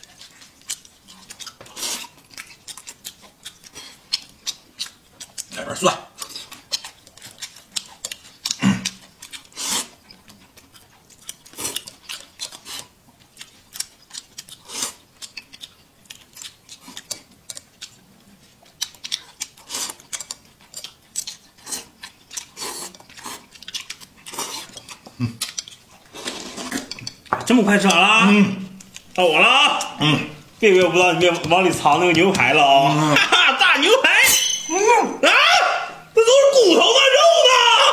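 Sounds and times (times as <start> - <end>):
slurping and chewing: 0.0 - 34.2.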